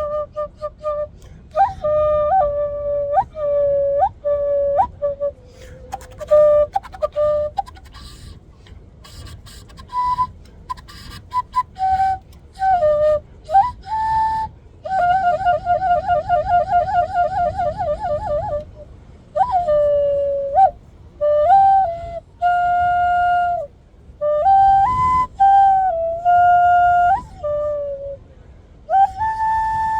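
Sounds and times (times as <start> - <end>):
cane flute playing: 0.0 - 29.9.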